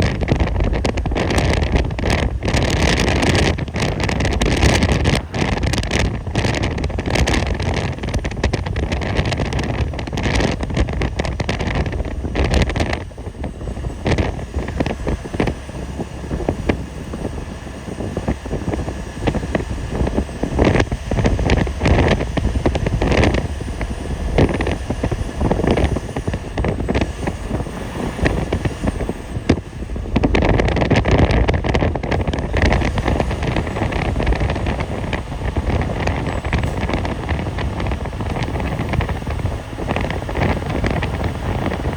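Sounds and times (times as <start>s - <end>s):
road and tyre rumble: 0.0s - 41.9s
wind buffeting microphone: 0.0s - 41.9s.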